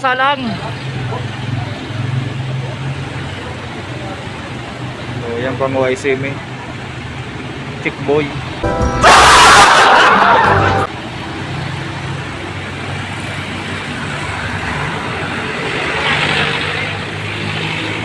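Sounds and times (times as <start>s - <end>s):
roadside traffic noise: 0.0s - 18.0s.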